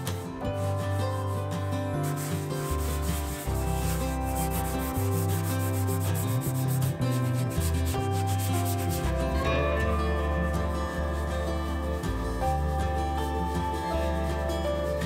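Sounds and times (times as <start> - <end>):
cloth rubbing wood: 0.0 - 9.4, 10.1 - 15.0
background music: 0.0 - 15.0.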